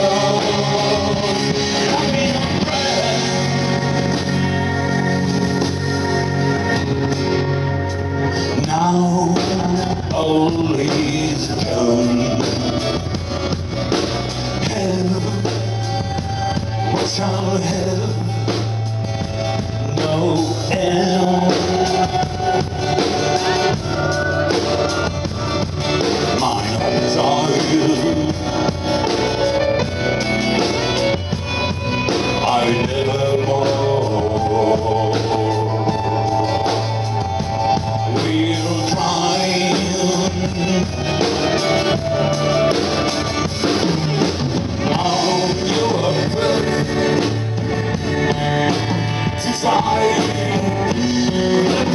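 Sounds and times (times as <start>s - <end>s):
live rock band: 0.0s - 51.9s
man singing lead: 0.0s - 51.9s.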